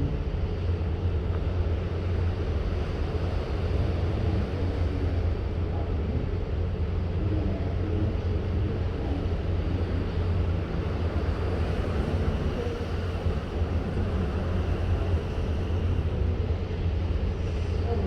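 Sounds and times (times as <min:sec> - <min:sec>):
ship engine drone: 0:00.0 - 0:18.0.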